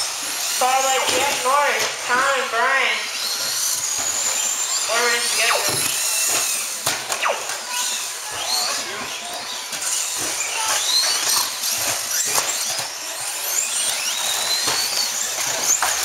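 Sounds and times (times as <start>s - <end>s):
rc truck motors whining: 0.0s - 16.0s.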